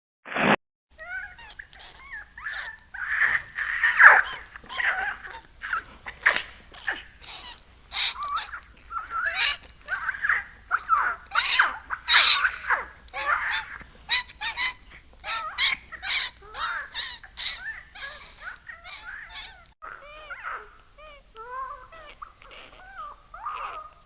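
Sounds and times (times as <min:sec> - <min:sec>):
pitch-shifted creature calls: 0:01.0 - 0:24.0.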